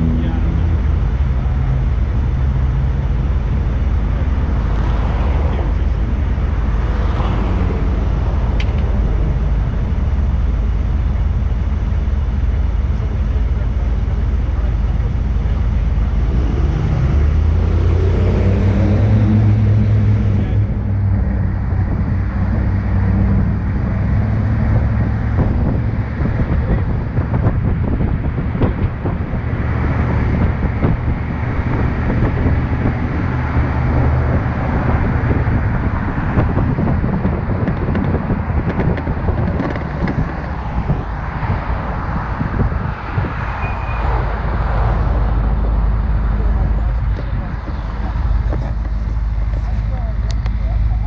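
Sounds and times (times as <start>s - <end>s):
road and wind noise: 0.0s - 51.0s
vehicle engine hum: 0.0s - 51.0s.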